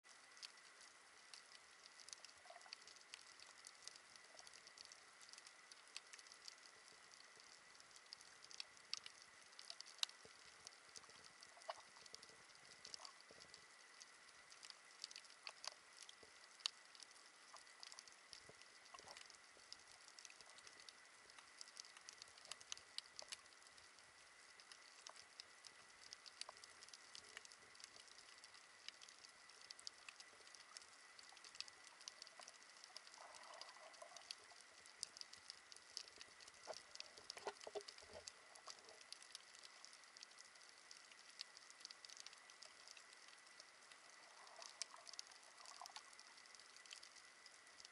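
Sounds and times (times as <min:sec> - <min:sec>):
soft hiss: 0:00.1 - 0:47.9
underwater clicks and ticks: 0:00.1 - 0:47.9.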